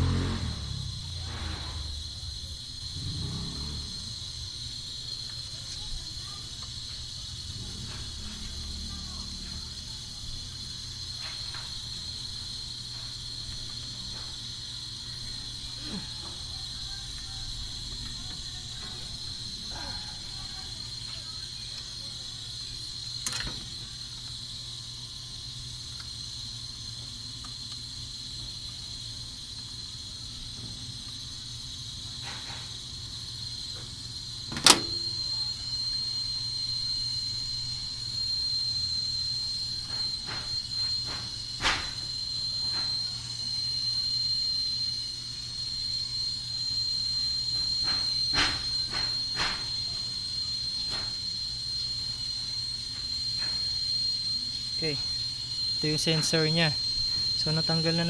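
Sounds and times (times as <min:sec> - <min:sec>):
high-pitched whine: 0:00.0 - 0:58.0.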